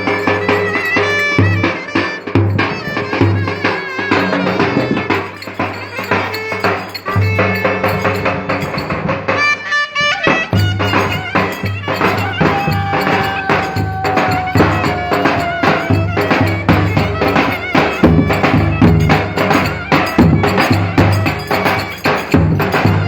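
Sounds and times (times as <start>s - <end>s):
drum beating quick rhythm: 0.0s - 9.2s, 10.3s - 23.0s
reedy wind instrument melody: 0.0s - 23.0s.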